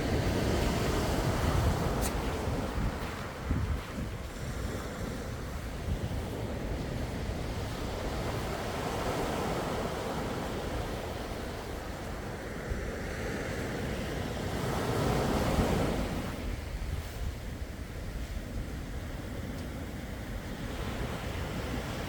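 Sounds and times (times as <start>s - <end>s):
sea waves washing: 0.0s - 22.0s
wind rumble on microphone: 0.0s - 22.0s.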